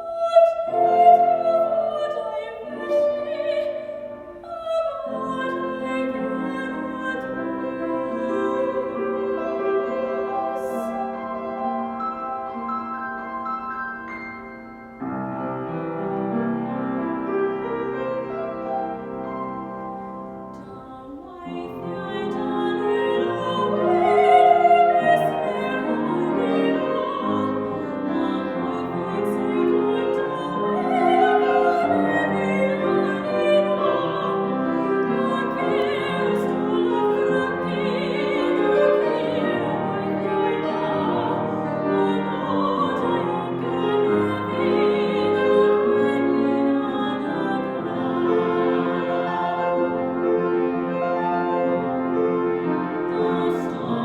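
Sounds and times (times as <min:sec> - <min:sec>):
operatic singing: 0:00.0 - 0:11.7, 0:20.5 - 0:52.1, 0:52.7 - 0:54.0
piano accompaniment: 0:00.0 - 0:54.0.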